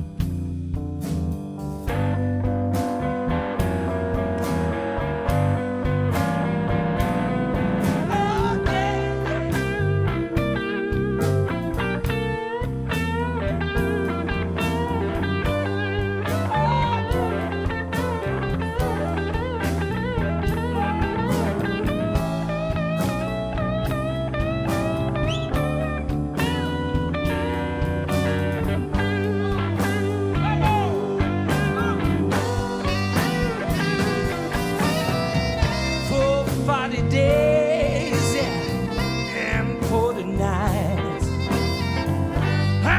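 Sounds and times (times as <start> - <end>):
blues band playing: 0.0 - 42.9
electric guitar solo: 2.0 - 42.9.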